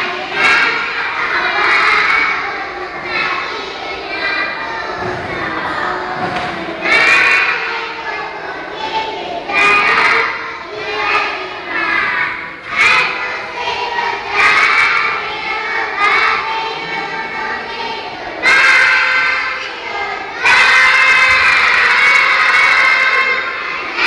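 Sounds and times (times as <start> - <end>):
children singing into microphones: 0.0 - 24.0.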